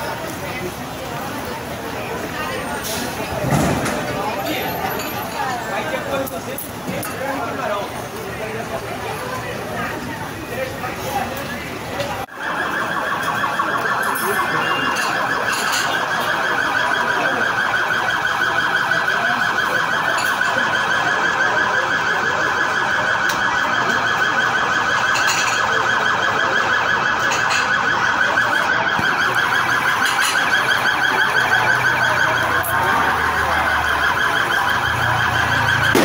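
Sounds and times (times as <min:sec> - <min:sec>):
police siren warbling: 0:00.0 - 0:36.0.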